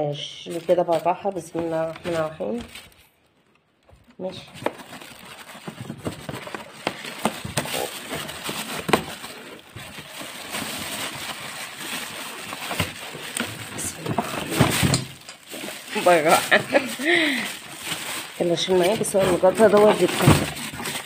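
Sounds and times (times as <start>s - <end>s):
plastic wrapping crinkling: 0.1s - 21.0s.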